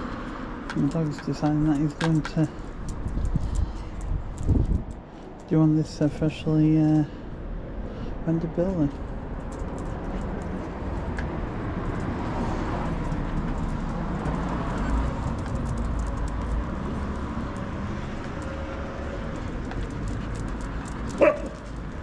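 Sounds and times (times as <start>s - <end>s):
street traffic hum: 0.0s - 22.0s.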